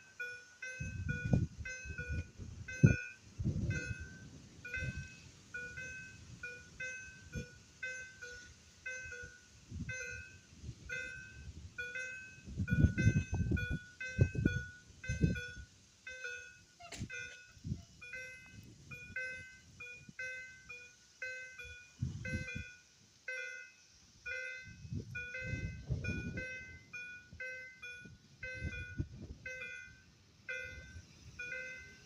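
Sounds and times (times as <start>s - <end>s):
level crossing signal chiming: 0.0s - 32.0s.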